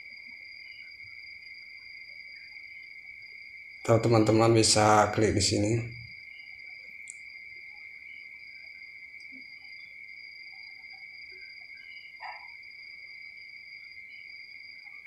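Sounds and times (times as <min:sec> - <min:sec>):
high-pitched cricket trilling: 0:00.0 - 0:15.0.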